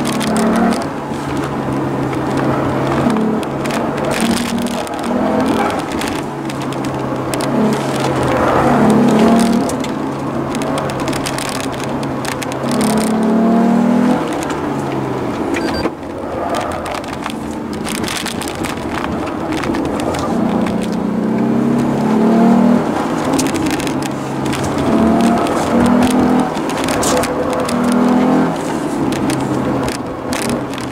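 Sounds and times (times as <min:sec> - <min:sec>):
car engine revving in cabin: 0:00.0 - 0:30.9
road and tyre noise: 0:00.0 - 0:30.9.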